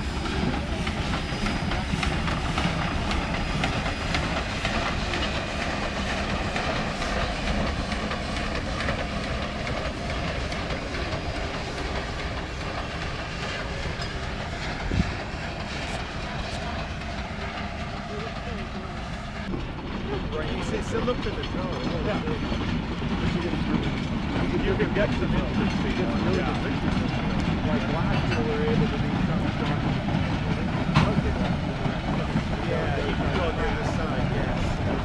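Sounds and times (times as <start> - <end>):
train wheels on rail: 0.0 - 35.0.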